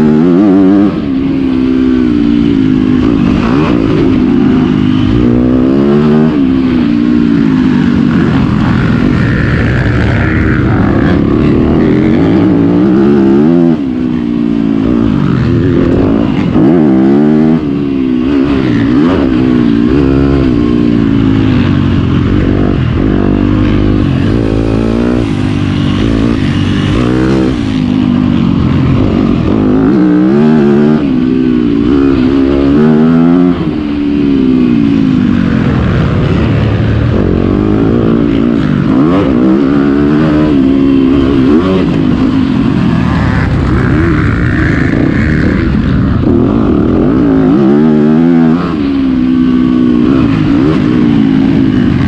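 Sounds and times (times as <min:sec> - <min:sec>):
motocross engine revving: 0:00.0 - 0:52.0.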